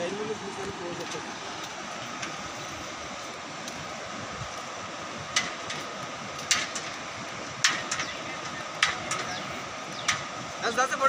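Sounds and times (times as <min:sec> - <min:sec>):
footsteps on metal bridge deck: 0:00.0 - 0:10.6.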